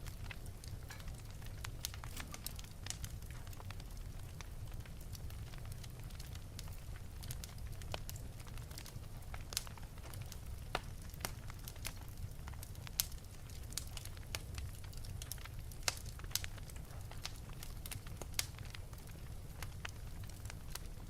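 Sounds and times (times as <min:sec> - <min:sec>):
fire low rumble: 0:00.0 - 0:21.0
fire popping: 0:00.0 - 0:21.0
wood fire crackling: 0:00.0 - 0:21.0.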